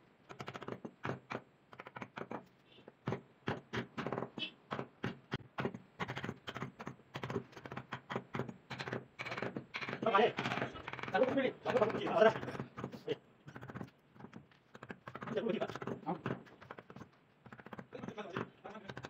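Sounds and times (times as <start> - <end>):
mallet tapping chisel into wood: 0.3 - 19.0.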